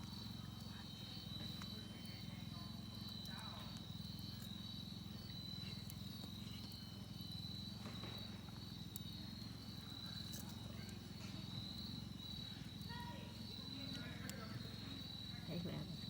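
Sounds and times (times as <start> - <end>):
insects chirping: 0.0 - 16.0
low steady hum: 0.0 - 16.0.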